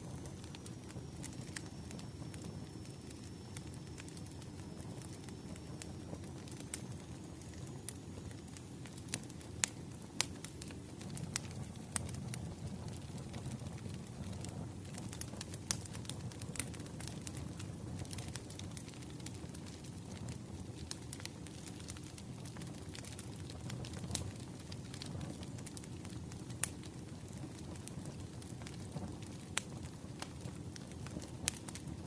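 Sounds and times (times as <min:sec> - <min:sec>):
fire crackling and popping: 0:00.0 - 0:32.0
fire low rumble: 0:00.0 - 0:32.0.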